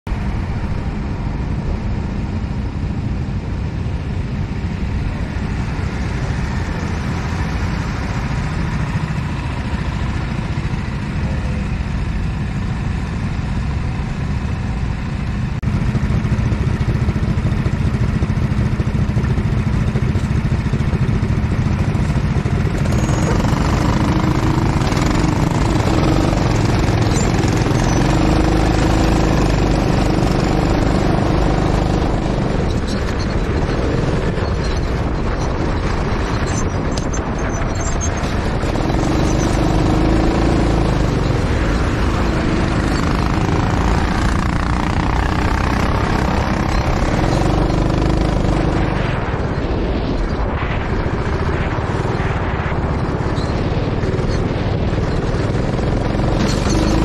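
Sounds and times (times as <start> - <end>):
go-kart engine running: 0.1 - 57.0.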